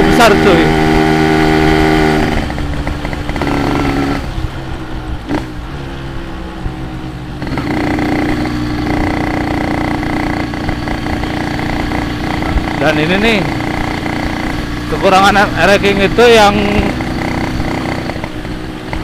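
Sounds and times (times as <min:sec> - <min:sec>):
two-stroke motorcycle engine: 0:00.0 - 0:05.7, 0:06.7 - 0:19.0.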